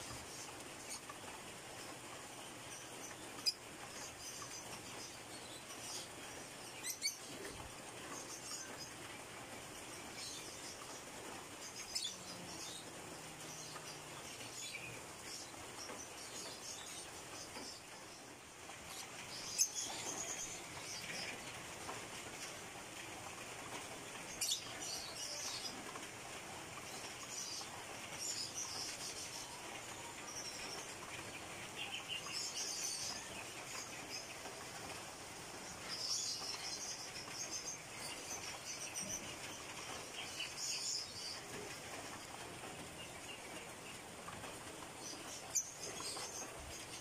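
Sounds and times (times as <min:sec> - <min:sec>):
faint steady hiss: 0:00.0 - 0:47.0
small birds chirping: 0:00.0 - 0:47.0.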